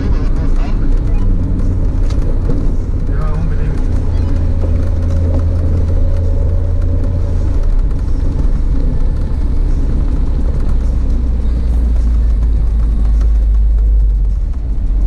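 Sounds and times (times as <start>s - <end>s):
car engine droning in cabin: 0.0s - 15.0s.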